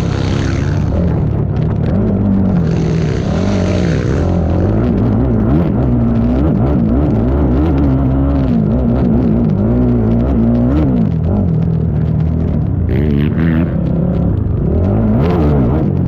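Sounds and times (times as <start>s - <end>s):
atv engine revving: 0.0s - 16.0s
clatter: 0.0s - 16.0s.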